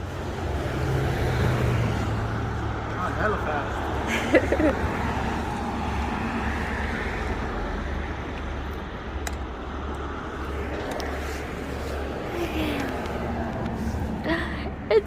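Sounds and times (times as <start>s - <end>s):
car rumble and road noise: 0.0s - 15.0s.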